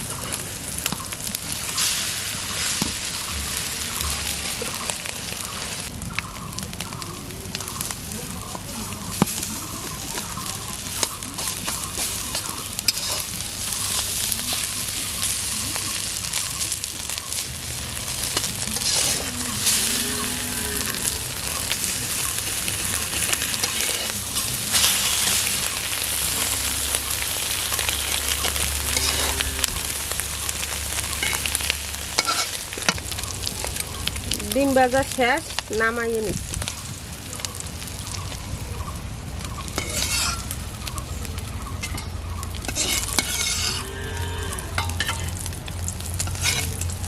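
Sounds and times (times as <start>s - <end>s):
egg sizzling in hot oil: 0.0s - 47.0s.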